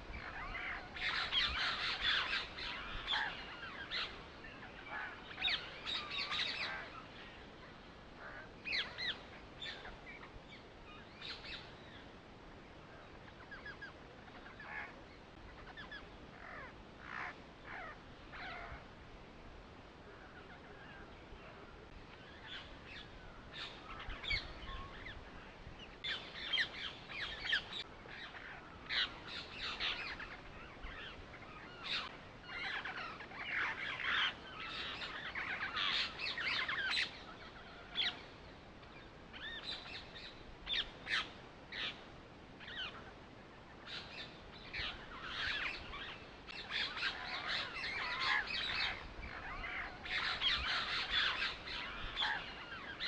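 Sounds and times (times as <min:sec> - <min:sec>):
birds chirping: 0:00.0 - 0:19.0, 0:19.8 - 0:53.0.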